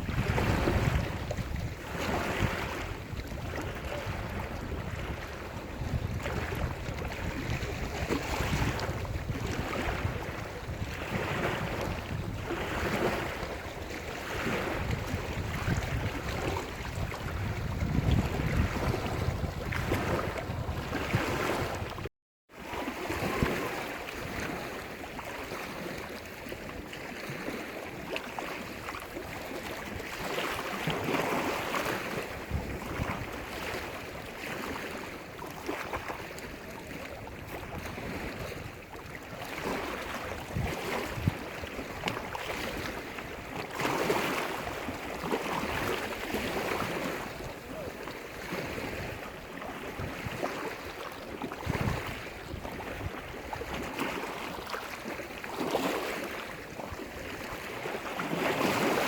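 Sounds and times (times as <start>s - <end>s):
small waves washing ashore: 0.0s - 59.0s
wind on microphone: 0.0s - 59.0s.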